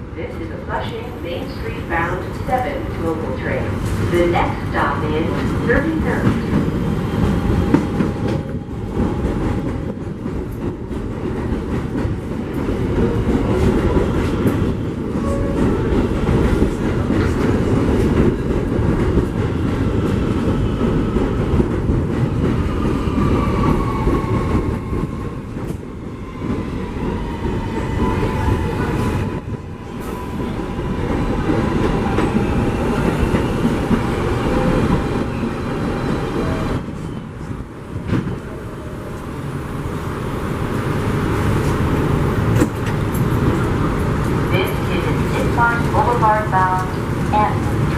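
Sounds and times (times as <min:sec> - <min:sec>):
subway train rumbling: 0:00.0 - 0:47.9.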